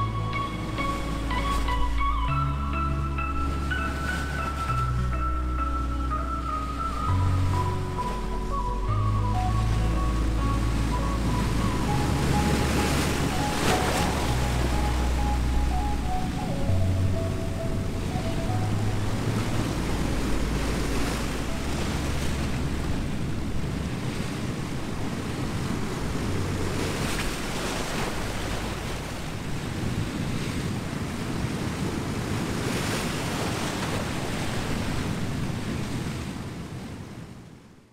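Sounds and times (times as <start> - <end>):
wind buffeting microphone: 0.0 - 37.4
ocean surf breaking over rocks: 0.0 - 37.6.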